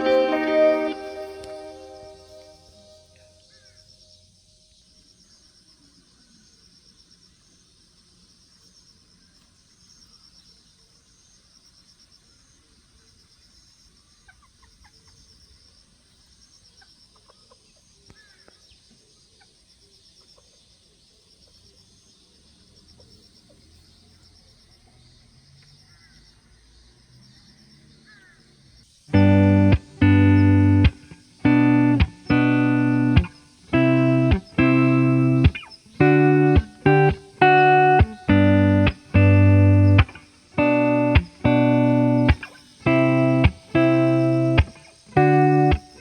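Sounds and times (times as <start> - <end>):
insects chirping in a trill: 1.0 - 46.0.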